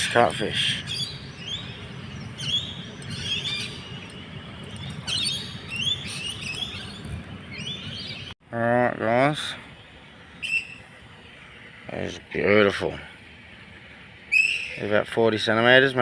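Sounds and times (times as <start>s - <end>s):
low background rumble: 0.0s - 14.7s
birds chirping: 0.0s - 16.0s.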